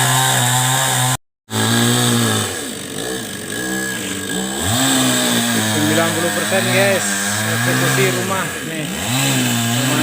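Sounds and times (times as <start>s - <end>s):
chainsaw engine running: 0.0s - 10.0s.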